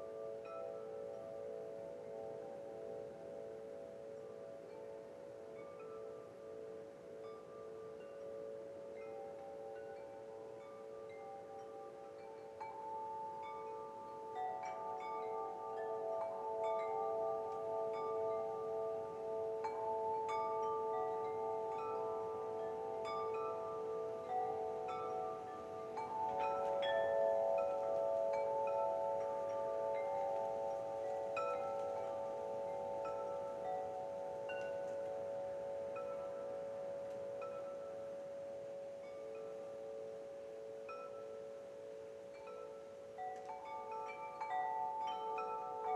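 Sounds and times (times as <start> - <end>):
wind chimes ringing: 0.0 - 45.9.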